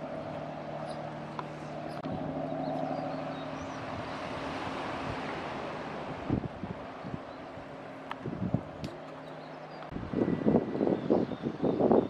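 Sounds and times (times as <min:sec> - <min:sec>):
mechanical engine hum: 0:00.0 - 0:11.4.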